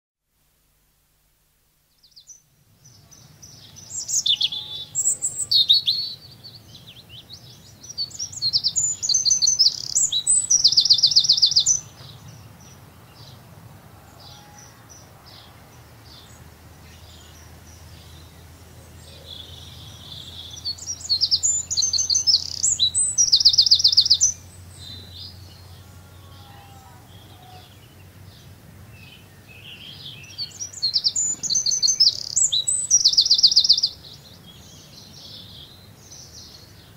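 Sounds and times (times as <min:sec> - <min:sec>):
songbirds trilling: 0:01.9 - 0:36.9.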